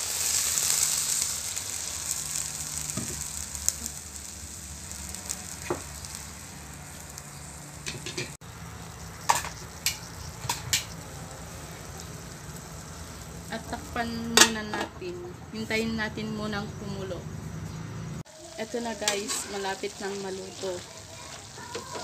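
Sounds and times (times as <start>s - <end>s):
vegetables sizzling in a pot: 0.0s - 22.0s.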